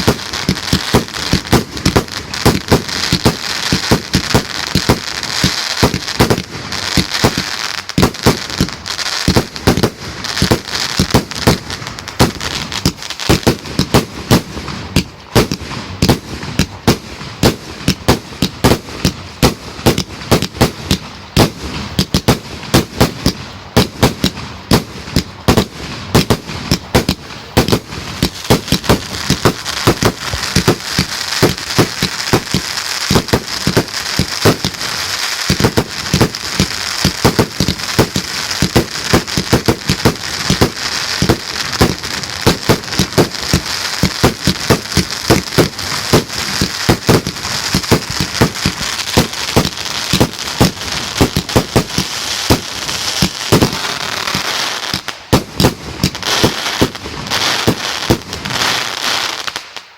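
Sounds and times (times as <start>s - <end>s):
fireworks bangs: 0.0s - 59.9s
fireworks crackling: 0.0s - 59.9s.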